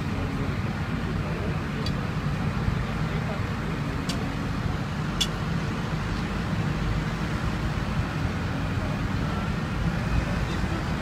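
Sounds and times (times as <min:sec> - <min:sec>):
crane engine rumble: 0:00.0 - 0:11.0
road traffic: 0:00.0 - 0:11.0.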